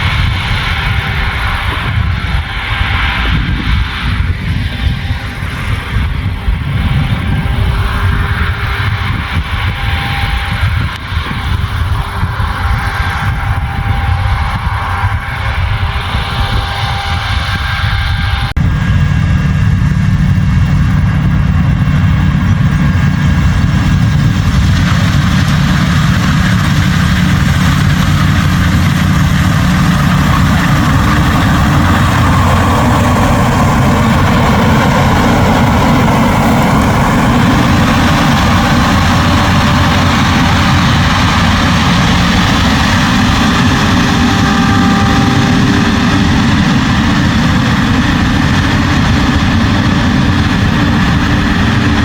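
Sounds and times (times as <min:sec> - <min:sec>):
diesel engine drone: 0:00.0 - 0:52.0
threshing machinery rush: 0:00.0 - 0:52.0.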